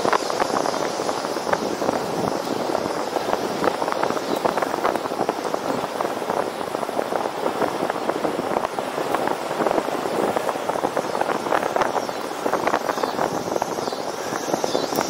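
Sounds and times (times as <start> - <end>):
tyre-on-road noise: 0.0 - 15.0
wind buffeting microphone: 0.0 - 15.0.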